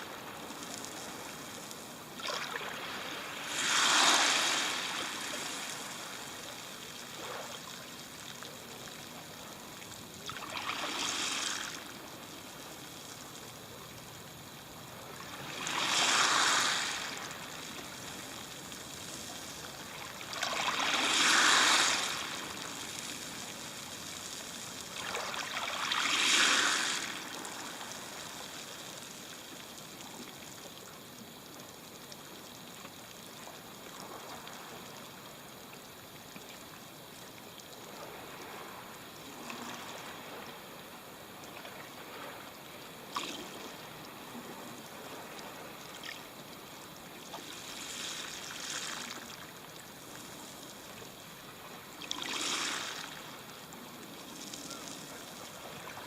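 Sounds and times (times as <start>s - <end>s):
small waves breaking on shore: 0.0s - 30.6s, 37.0s - 56.0s.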